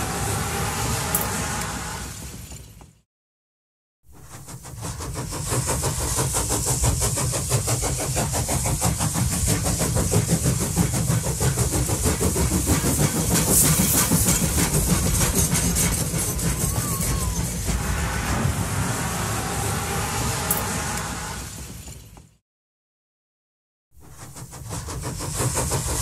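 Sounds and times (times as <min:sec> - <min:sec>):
train running at speed: 0:00.0 - 0:03.0, 0:04.1 - 0:22.4, 0:24.0 - 0:26.0.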